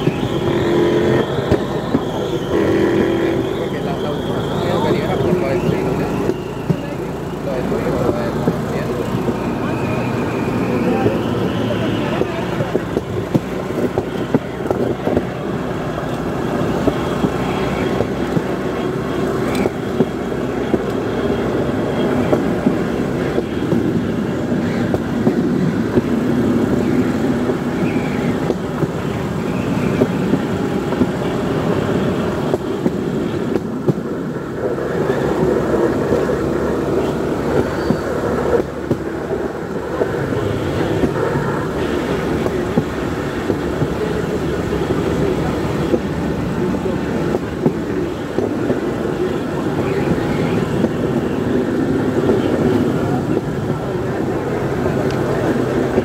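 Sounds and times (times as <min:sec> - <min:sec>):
rail trolley engine hum: 0:00.0 - 0:56.0
steel wheels rattling on rails: 0:00.0 - 0:56.0.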